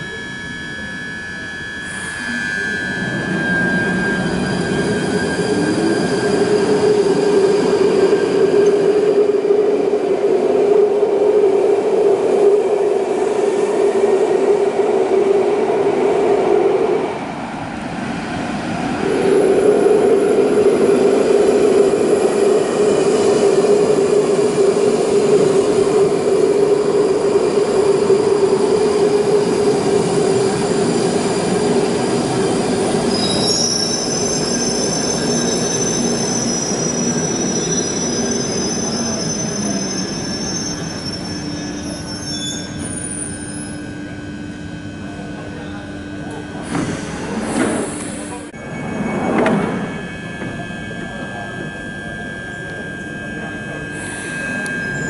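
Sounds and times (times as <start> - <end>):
rail noise: 0.0 - 55.0
tube train whine: 0.0 - 55.0.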